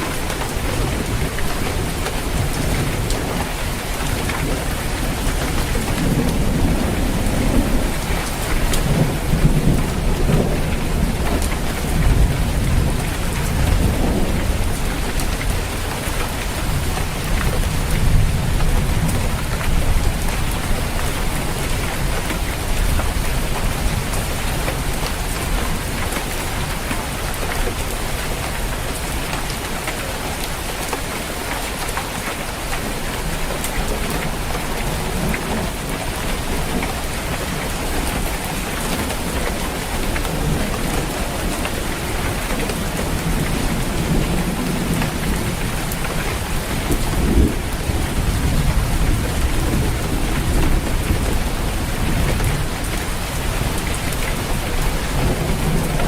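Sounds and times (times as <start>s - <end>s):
low rolling thunder: 0.0s - 28.4s, 33.2s - 56.0s
rain falling on a roof: 0.0s - 56.0s.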